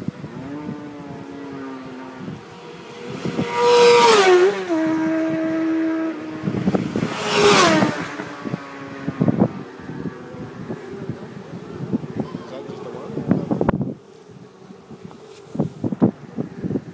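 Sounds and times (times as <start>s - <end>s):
motorcycles passing at speed: 0.0s - 16.9s.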